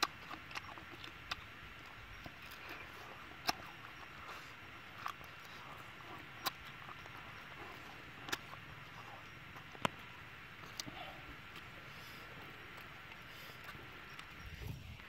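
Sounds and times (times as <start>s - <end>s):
sharp mouth clicks: 0.0s - 14.8s
man chewing with lip smacks: 0.0s - 15.0s.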